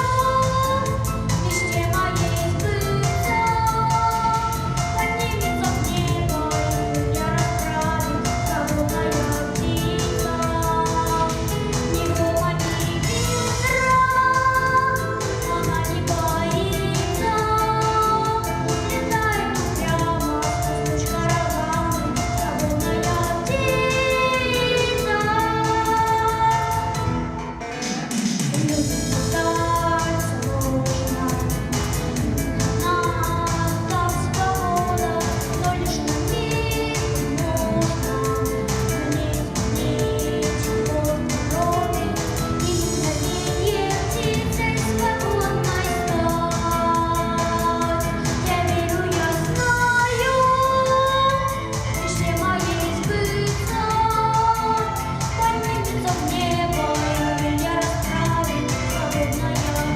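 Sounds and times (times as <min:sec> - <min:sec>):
child singing: 0:00.0 - 0:27.0, 0:28.6 - 0:32.0, 0:32.6 - 0:59.9
pop backing track: 0:00.0 - 0:59.9.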